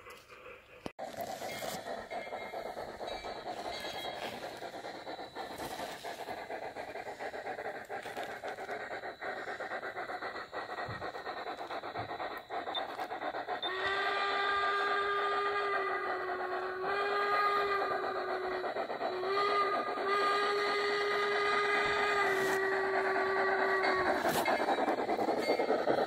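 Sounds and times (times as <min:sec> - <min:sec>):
model steam locomotive chuffing: 0:00.0 - 0:26.0.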